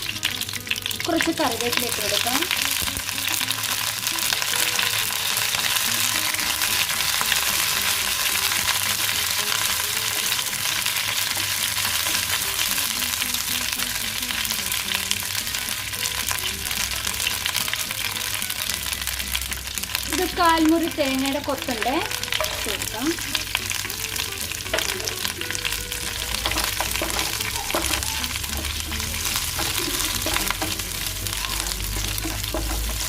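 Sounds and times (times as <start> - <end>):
spices sizzling in hot oil: 0.0 - 33.0.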